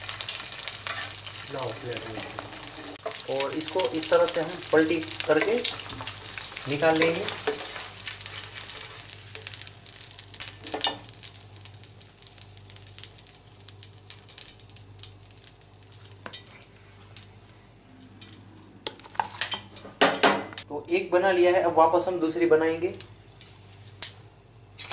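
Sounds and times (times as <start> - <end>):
egg sizzling in oil: 0.0 - 19.8, 23.0 - 24.9.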